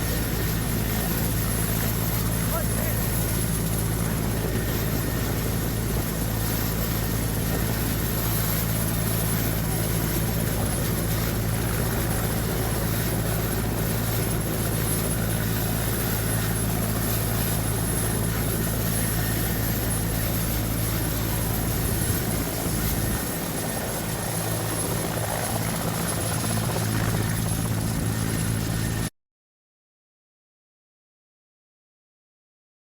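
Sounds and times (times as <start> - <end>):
helicopter rotor and engine drone: 0.0 - 29.1.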